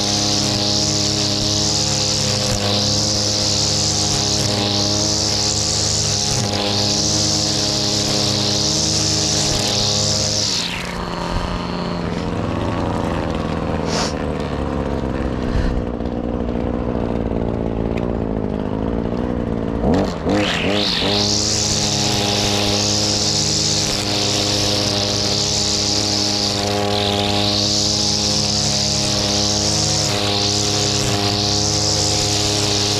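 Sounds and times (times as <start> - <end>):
brushcutter engine running: 0.0 - 32.9.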